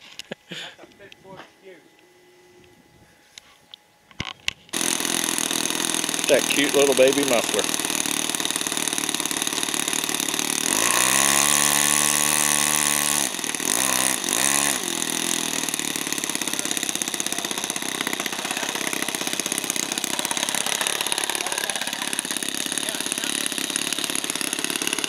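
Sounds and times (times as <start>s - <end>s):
model airplane engine revving: 4.7s - 25.0s.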